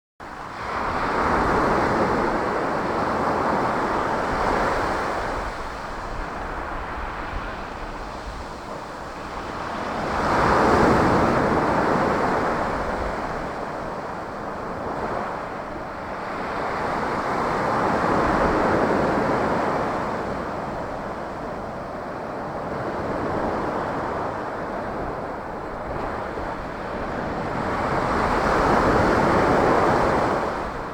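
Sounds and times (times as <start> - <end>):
wind on microphone: 0.2 - 30.9
waves breaking on beach: 0.3 - 30.9.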